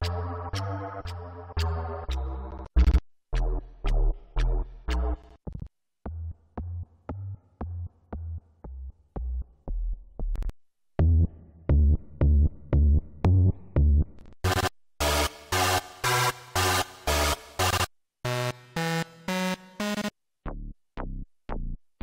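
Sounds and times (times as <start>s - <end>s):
bass-heavy synth notes: 0.0s - 5.3s, 6.1s - 21.8s.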